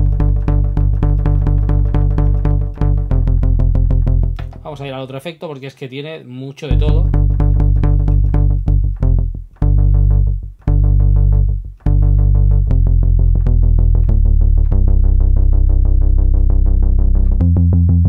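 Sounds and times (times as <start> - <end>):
bass synthesizer repeating notes: 0.0 - 5.1, 6.7 - 18.0.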